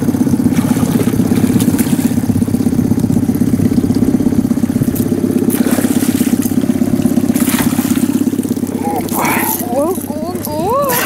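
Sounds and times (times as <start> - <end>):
boat motor idling: 0.0 - 11.0
fish splashing at surface: 0.0 - 11.0.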